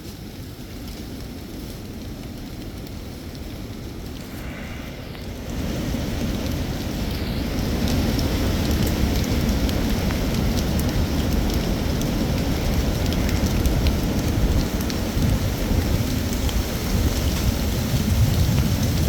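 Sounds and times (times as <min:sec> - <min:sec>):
continuous low rumble: 0:00.0 - 0:19.0.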